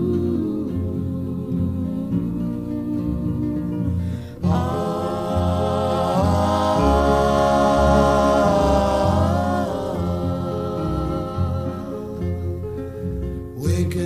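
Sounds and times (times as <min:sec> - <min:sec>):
low musical accompaniment: 0:00.0 - 0:14.0.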